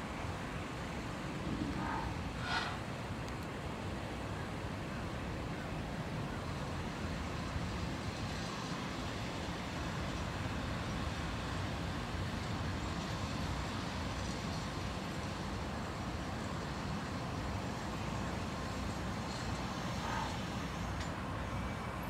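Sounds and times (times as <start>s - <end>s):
diesel locomotive rumbling: 0.0s - 22.0s
open-air noise: 0.0s - 22.0s.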